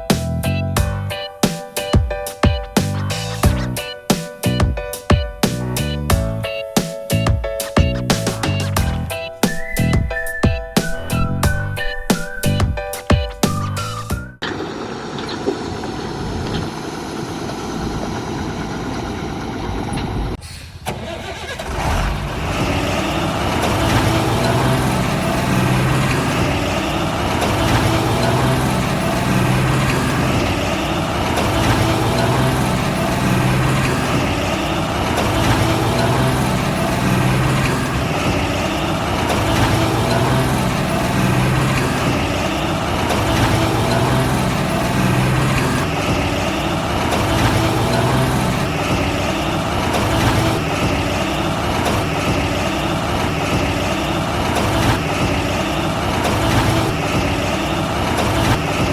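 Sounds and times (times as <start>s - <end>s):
heavy vehicle engine throbbing: 0.0s - 1.3s, 2.8s - 4.8s, 5.4s - 12.8s, 13.5s - 20.4s, 21.4s - 58.9s.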